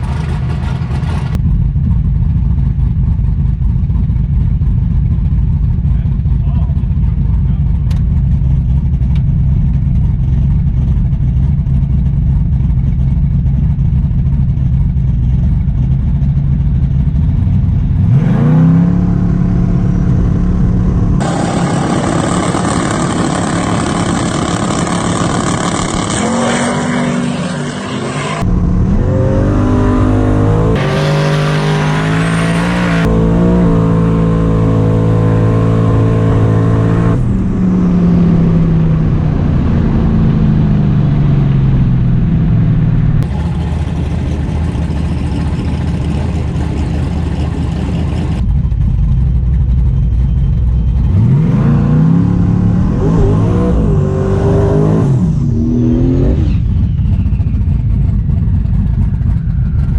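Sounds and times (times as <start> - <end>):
drag race car engines: 0.0 - 59.9.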